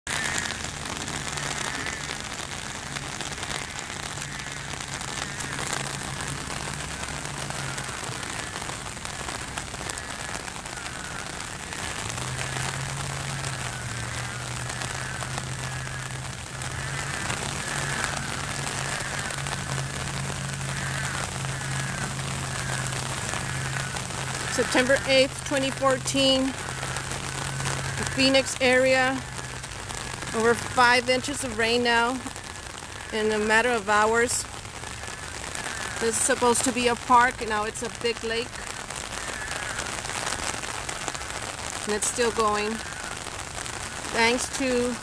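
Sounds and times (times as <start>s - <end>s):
rain falling on water: 0.0s - 45.0s.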